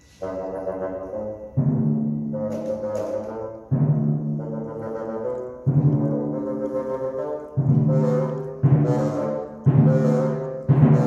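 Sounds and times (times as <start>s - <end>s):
bassoon: 0.0s - 11.0s
timpani: 0.0s - 11.0s.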